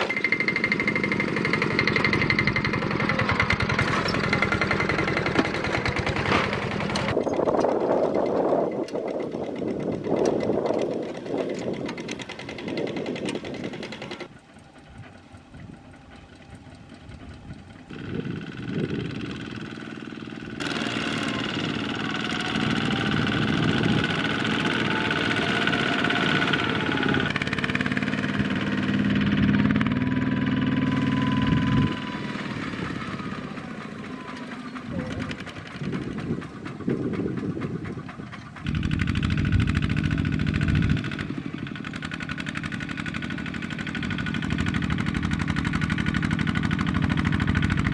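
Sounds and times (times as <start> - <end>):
diesel tractor engine under load: 0.0 - 47.9.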